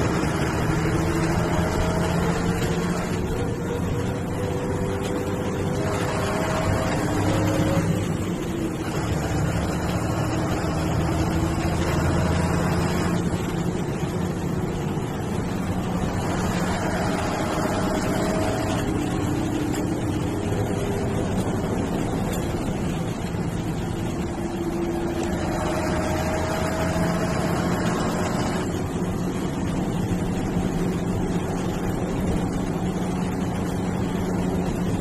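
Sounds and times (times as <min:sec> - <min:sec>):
bus diesel engine under load: 0:00.0 - 0:35.0
engine whine rising in pitch: 0:00.0 - 0:35.0.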